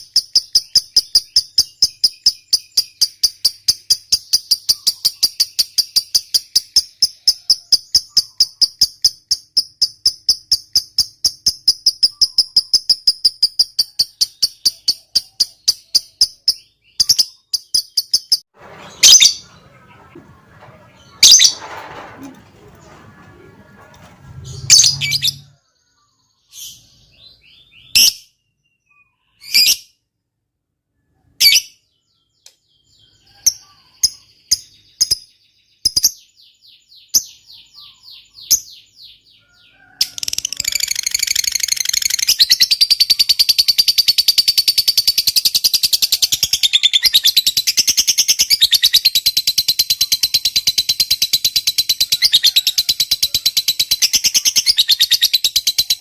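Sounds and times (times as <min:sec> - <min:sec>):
lovebird chirping and chattering: 0:00.0 - 0:21.6, 0:24.4 - 0:29.9, 0:33.0 - 0:36.4, 0:37.0 - 0:39.2, 0:40.1 - 0:56.0.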